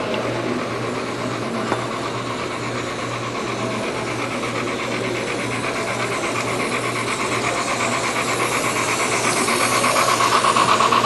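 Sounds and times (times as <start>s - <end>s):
model train clicking and whirring: 0.0s - 11.0s
steady low hum: 0.0s - 11.0s.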